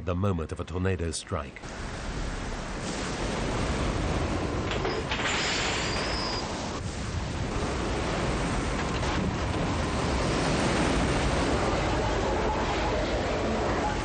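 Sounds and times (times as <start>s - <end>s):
strong wind rushing: 1.7s - 14.0s.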